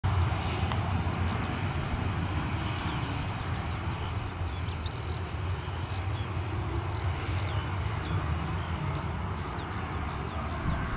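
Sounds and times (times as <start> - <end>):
jet engines at low thrust: 0.0 - 10.9.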